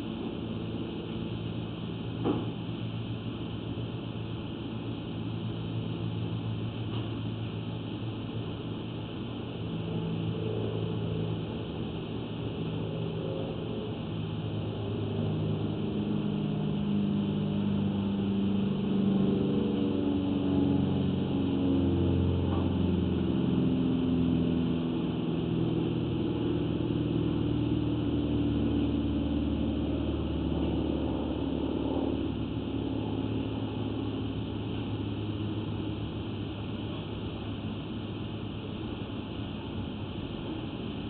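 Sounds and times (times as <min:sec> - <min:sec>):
engine running: 0:00.0 - 0:41.0.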